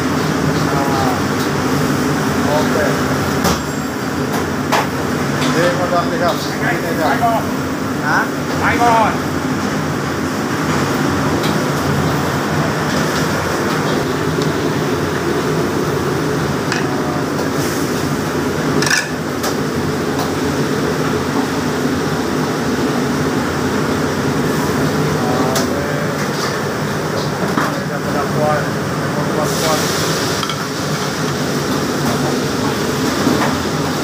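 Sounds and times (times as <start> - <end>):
kitchen machinery roaring: 0.0 - 34.0.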